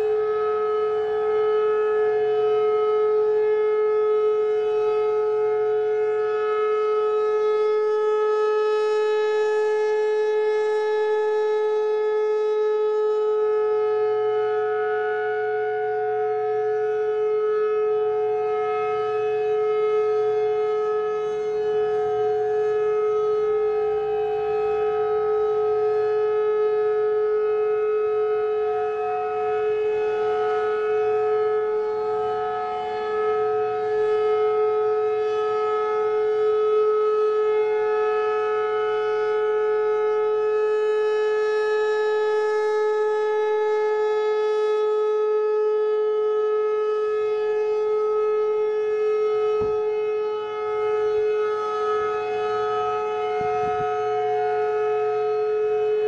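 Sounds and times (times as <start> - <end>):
distant second siren: 0.0 - 56.0
warning siren steady tone: 0.0 - 56.0.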